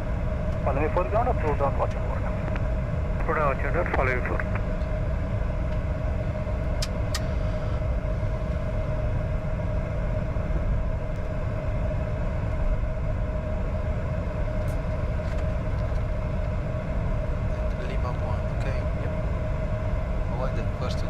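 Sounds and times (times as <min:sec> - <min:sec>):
jet cockpit rumble and hum: 0:00.0 - 0:21.0.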